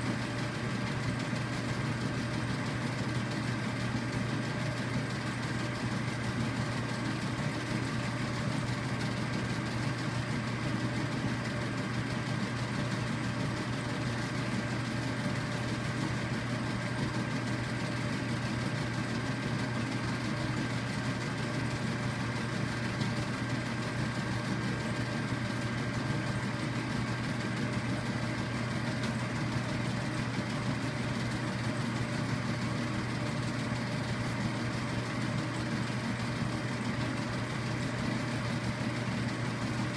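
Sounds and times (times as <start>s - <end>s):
motor and fan hum: 0.0s - 39.9s.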